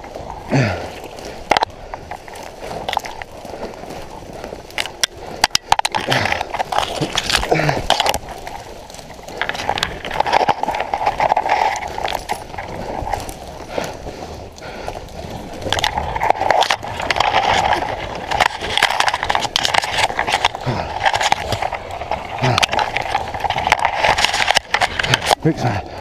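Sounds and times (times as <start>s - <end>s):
dry leaves crunching: 0.0s - 26.0s
twigs snapping and scraping: 0.0s - 26.0s.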